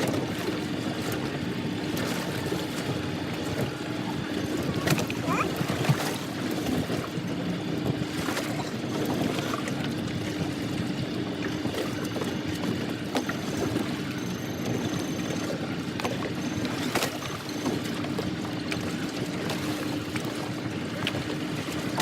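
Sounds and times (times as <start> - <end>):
boat engine humming: 0.0 - 22.0
water noise: 0.0 - 22.0.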